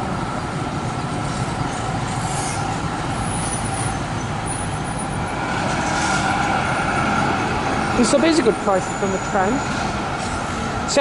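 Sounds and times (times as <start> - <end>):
tram running noise: 0.0 - 11.0.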